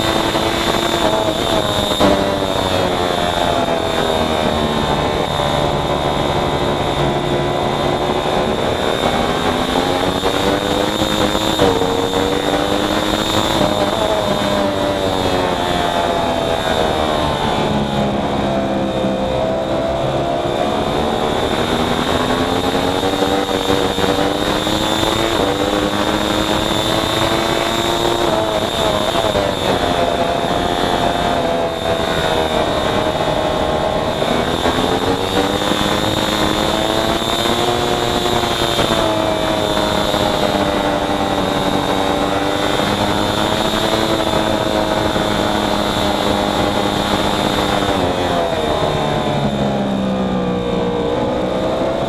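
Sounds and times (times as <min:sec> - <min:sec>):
racing motorcycle engine revving: 0:00.0 - 0:52.0.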